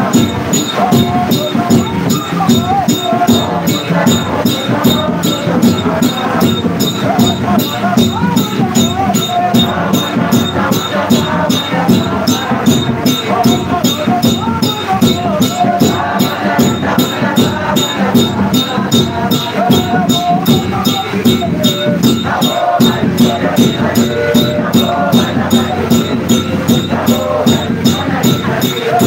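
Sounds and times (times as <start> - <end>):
congregation singing: 0.0 - 29.0
percussion beat: 0.0 - 29.0
shaker-like jingle: 0.0 - 29.0.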